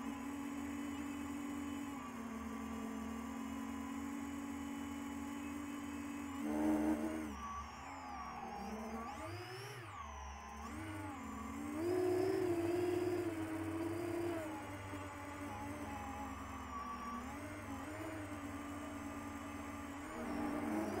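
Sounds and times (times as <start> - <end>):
quadcopter motors humming: 0.0 - 21.0.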